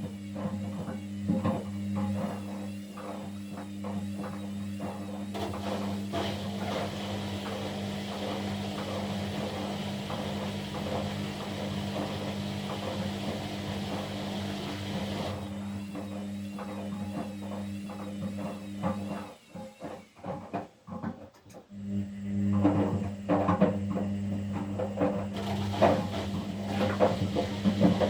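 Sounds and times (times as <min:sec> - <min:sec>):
washing machine motor hum: 0:00.0 - 0:20.5, 0:21.6 - 0:28.0.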